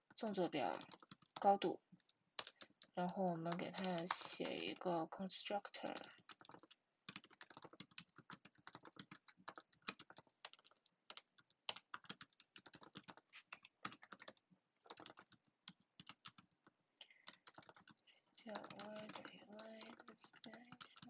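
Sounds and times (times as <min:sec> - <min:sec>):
keyboard typing: 0:00.0 - 0:21.0.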